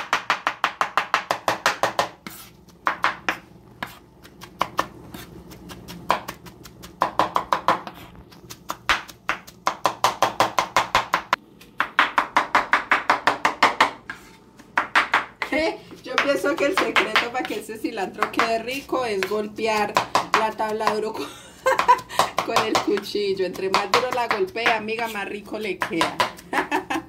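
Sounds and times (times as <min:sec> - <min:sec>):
knife chopping on wooden board: 0:00.0 - 0:21.1, 0:21.7 - 0:26.5.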